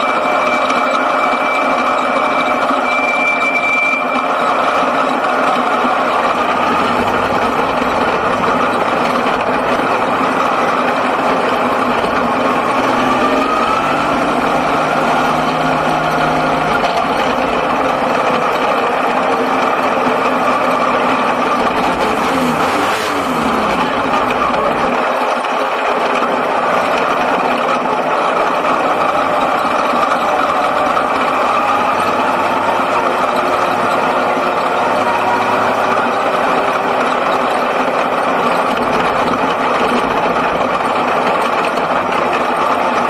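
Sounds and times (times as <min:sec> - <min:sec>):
race car engine revving: 0:04.6 - 0:25.2, 0:26.0 - 0:43.0.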